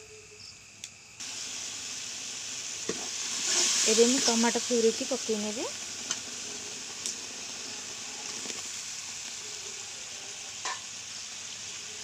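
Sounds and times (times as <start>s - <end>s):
sauce sizzling in oil: 1.2s - 12.0s.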